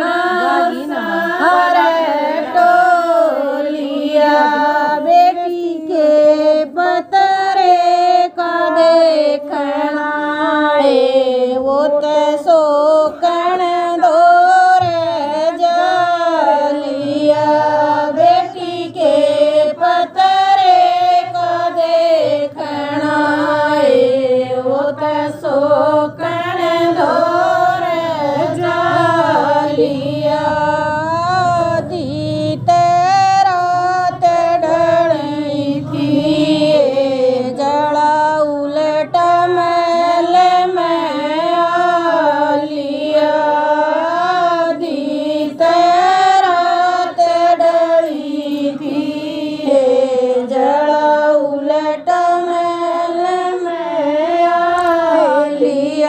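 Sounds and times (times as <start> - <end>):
women singing folk song: 0.0 - 56.0.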